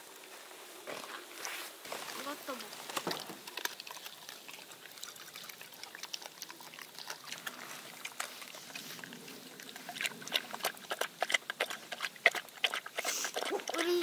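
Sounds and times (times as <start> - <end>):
dog lapping milk: 2.5 - 14.0.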